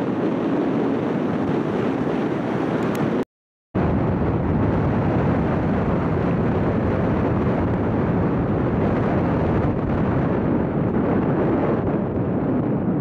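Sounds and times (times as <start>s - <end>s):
wind on microphone: 0.0s - 3.2s, 3.8s - 13.0s.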